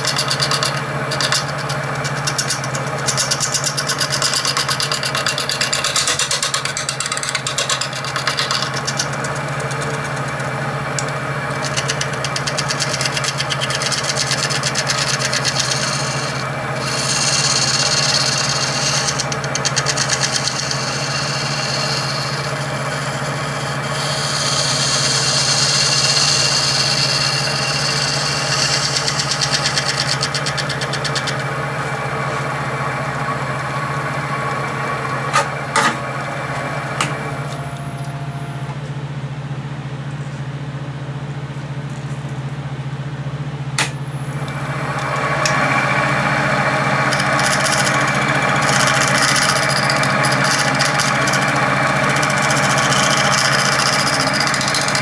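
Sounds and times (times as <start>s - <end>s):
hand tool scraping spinning pulley: 0.0s - 36.1s, 44.9s - 55.0s
wood lathe motor running: 0.0s - 39.3s, 43.8s - 55.0s.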